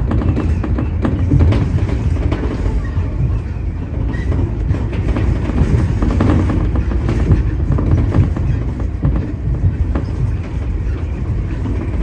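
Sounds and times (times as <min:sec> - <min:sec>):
train running rumble: 0:00.0 - 0:12.0
wheels clicking over rail joints: 0:00.0 - 0:12.0.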